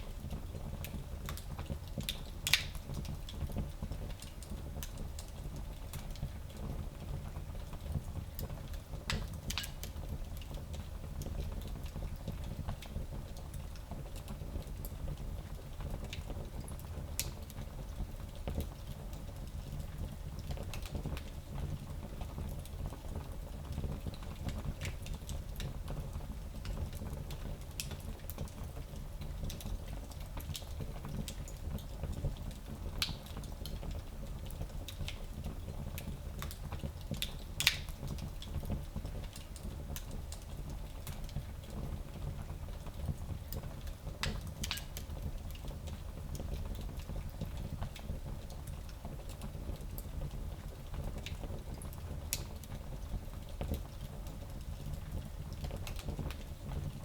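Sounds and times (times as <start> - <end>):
fire crackling with pops: 0.0 - 57.0.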